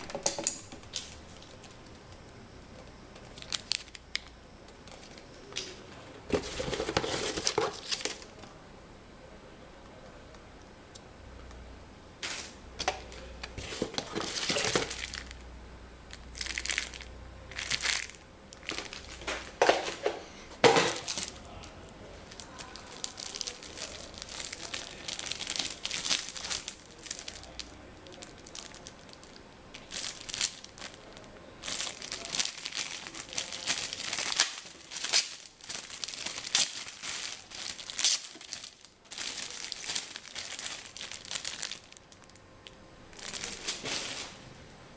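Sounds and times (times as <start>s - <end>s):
packaging crinkling and rustling: 0.0s - 2.2s, 3.2s - 8.4s, 12.2s - 15.4s, 16.1s - 44.4s.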